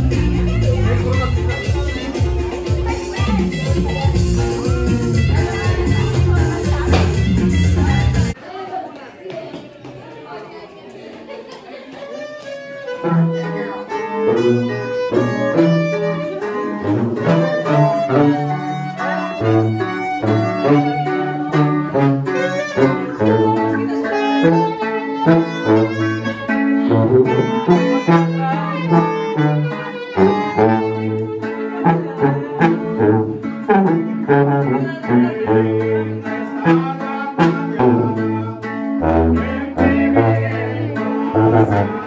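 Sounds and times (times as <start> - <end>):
saxophone melody: 0.0 - 8.4, 12.1 - 42.0
strummed guitar: 0.0 - 8.4, 11.9 - 42.0.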